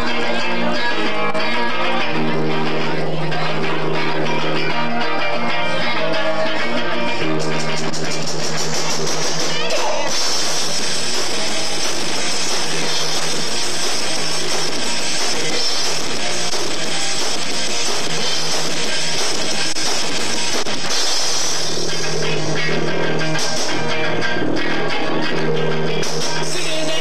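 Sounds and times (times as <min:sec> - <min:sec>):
bass guitar: 0:00.0 - 0:27.0
drum kit: 0:00.0 - 0:27.0
electric guitar: 0:00.0 - 0:27.0.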